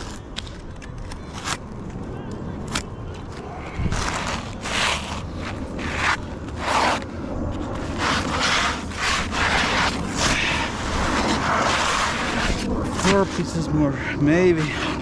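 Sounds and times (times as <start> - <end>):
scraping asphalt shingles: 2.7 - 15.0.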